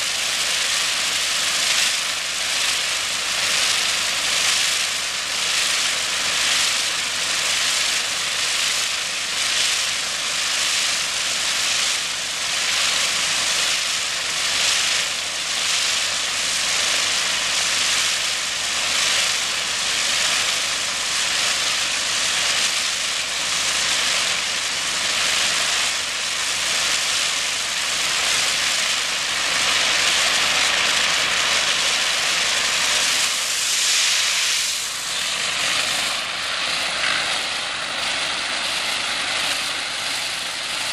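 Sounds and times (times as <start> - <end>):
high-pressure water jet spraying: 0.0 - 40.9.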